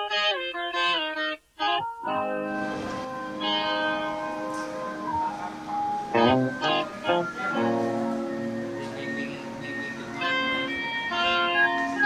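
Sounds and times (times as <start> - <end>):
blues lead guitar sliding notes: 0.0 - 12.0.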